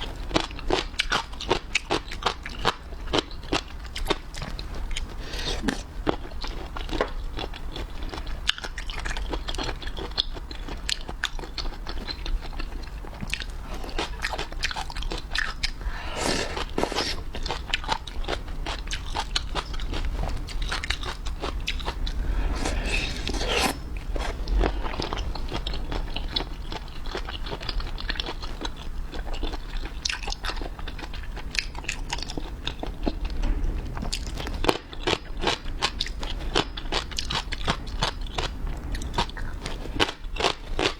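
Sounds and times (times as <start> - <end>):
biting and chewing seafood: 0.2 - 33.4.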